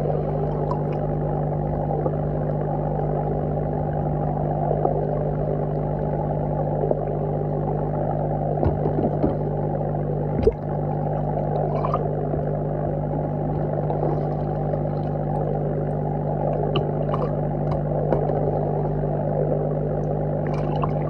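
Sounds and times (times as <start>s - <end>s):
underwater aerator hum: 0.0s - 21.0s.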